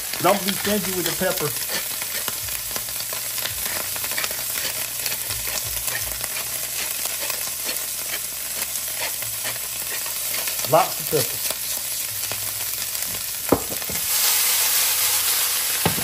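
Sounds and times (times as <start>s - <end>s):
leaves sizzling in fat: 0.0s - 16.0s.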